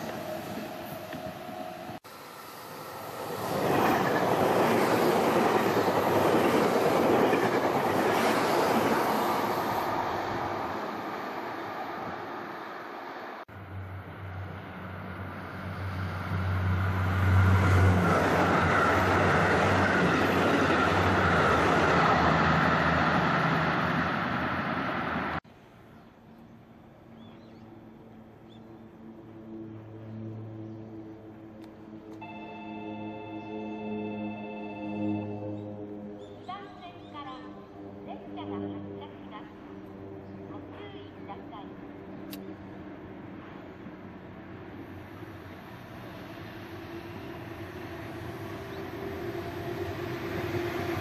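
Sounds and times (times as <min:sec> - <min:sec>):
train wheel and rail rush: 0:00.0 - 0:25.5, 0:31.2 - 0:51.0
distant rail noise: 0:00.0 - 0:51.0.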